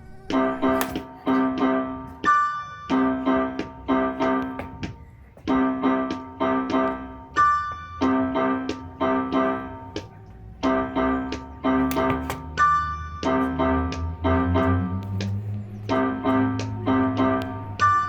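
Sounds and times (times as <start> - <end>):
piano chords: 0.0 - 18.0.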